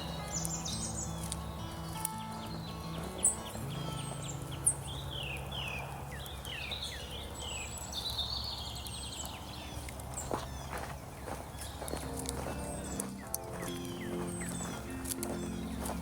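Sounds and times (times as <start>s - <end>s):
songbirds whistling and trilling: 0.0s - 16.0s.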